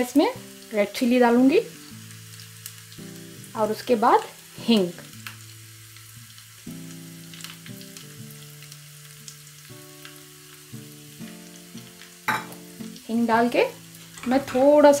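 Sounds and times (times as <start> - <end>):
spices sizzling in ghee: 0.0 - 15.0.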